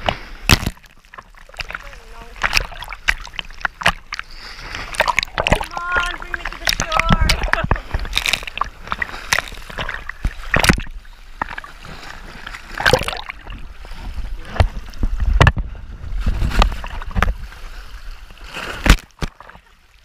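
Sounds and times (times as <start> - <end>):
sea waves sloshing: 0.0 - 20.0.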